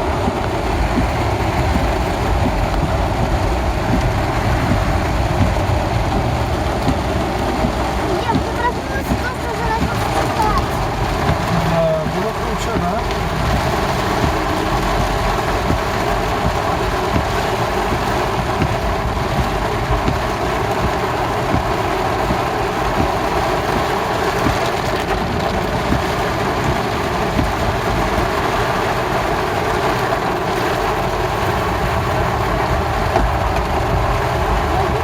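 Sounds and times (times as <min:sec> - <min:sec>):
heavy rain downpour: 0:00.0 - 0:35.0
tyres on wet road: 0:00.0 - 0:35.0
vehicle engine: 0:00.0 - 0:35.0.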